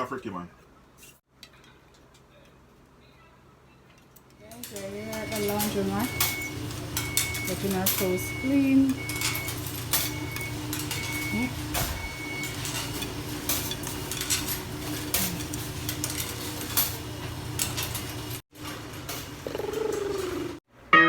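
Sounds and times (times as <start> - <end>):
washers and dryers humming: 3.4 - 21.0.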